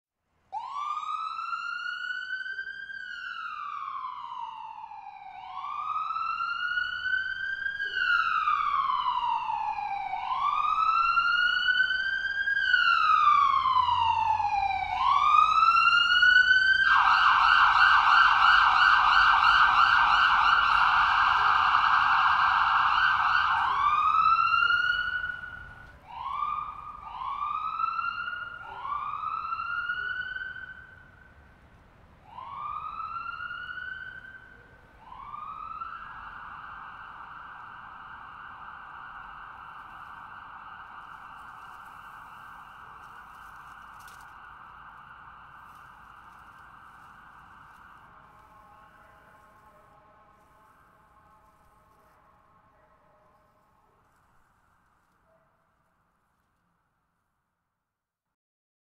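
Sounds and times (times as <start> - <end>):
ambulance siren wailing: 0.5 - 55.2.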